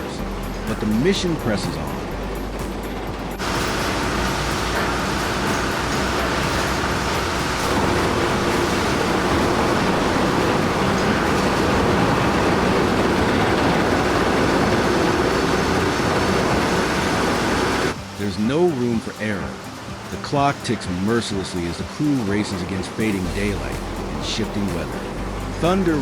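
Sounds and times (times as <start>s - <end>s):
heavy machinery rumbling: 0.0s - 18.7s, 19.4s - 26.0s.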